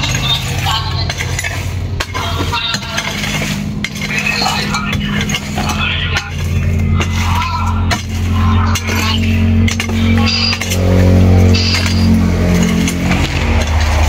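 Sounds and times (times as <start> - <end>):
clinking and scraping: 0.0 - 14.0
steady low hum: 0.0 - 14.0.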